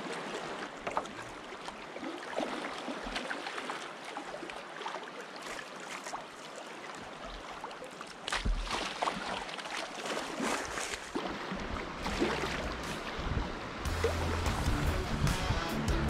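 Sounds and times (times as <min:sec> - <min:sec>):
water trickling and gurgling: 0:00.0 - 0:14.8
paddle splashing in water: 0:00.0 - 0:14.9.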